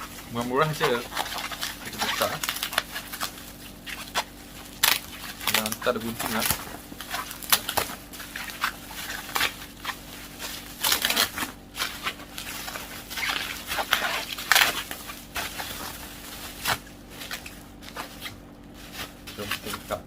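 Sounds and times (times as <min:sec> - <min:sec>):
plastic packaging tearing and crinkling: 0:00.0 - 0:20.0.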